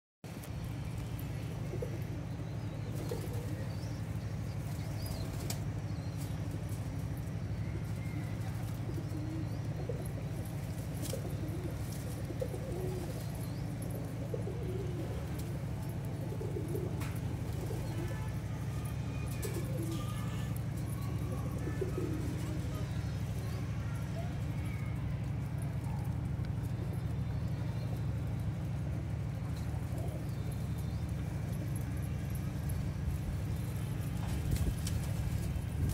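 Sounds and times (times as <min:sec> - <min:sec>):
steady low hum: 0:00.3 - 0:35.9
pigeons cooing: 0:01.2 - 0:35.9.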